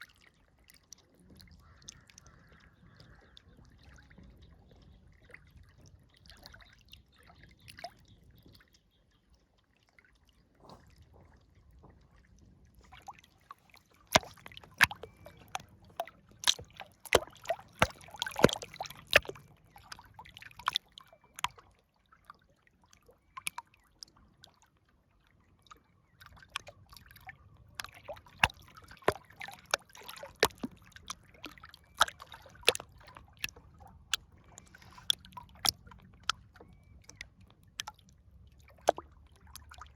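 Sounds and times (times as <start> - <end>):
river water trickling and lapping: 0.0 - 39.9.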